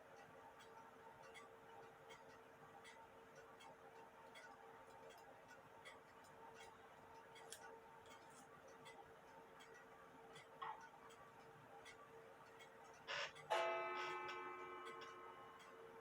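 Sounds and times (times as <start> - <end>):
clock ticking faintly: 0.0 - 16.0
faint steady hum: 0.0 - 16.0.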